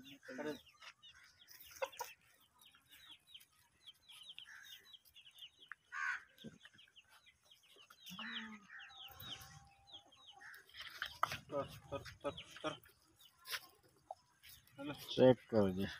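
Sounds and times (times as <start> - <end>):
chickens peeping: 0.0 - 15.9.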